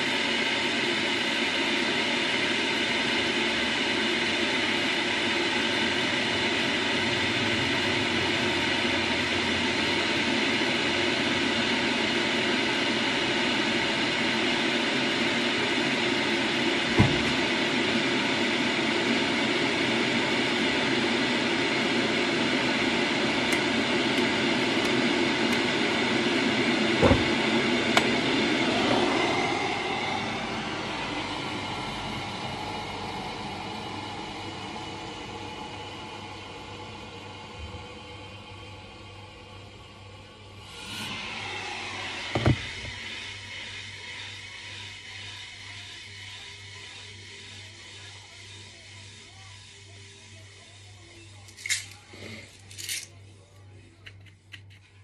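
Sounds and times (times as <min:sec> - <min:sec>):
kettle boiling rumble: 0:00.0 - 0:52.6.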